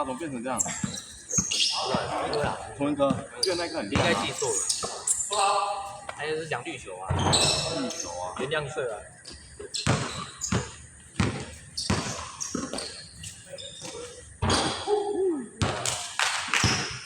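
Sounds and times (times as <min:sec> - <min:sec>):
basketballs bouncing on hard court: 0:00.6 - 0:06.2, 0:07.1 - 0:08.2, 0:09.2 - 0:14.9, 0:15.6 - 0:17.0.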